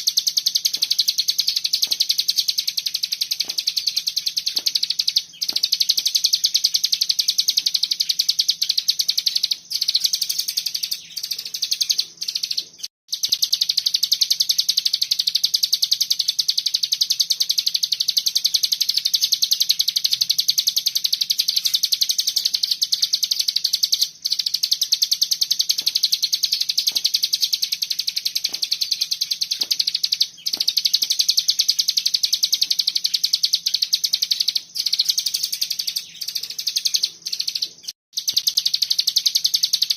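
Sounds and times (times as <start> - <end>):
songbird trilling: 0.0 - 39.9.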